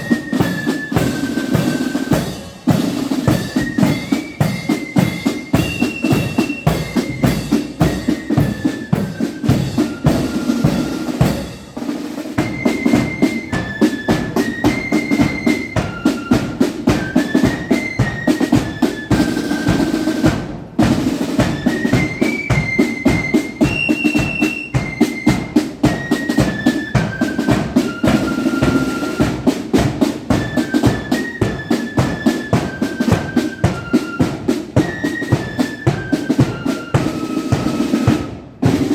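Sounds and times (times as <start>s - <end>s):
flute melody: 0.0s - 38.9s
rapid snare drumming: 0.0s - 38.9s.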